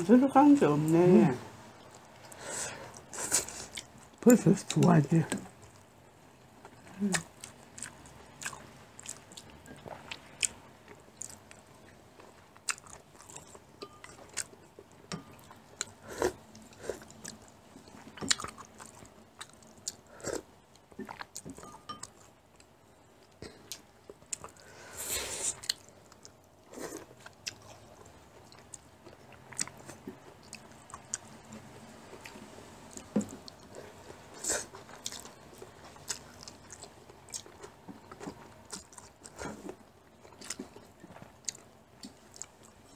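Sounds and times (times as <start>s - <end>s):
chewing and mouth noises: 6.6s - 24.7s, 25.5s - 42.9s.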